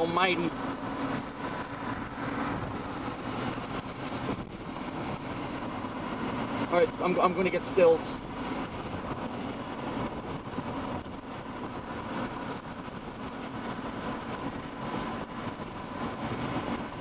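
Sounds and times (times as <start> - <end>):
car engine hum: 0.0 - 17.0
tyres on wet road: 0.0 - 17.0.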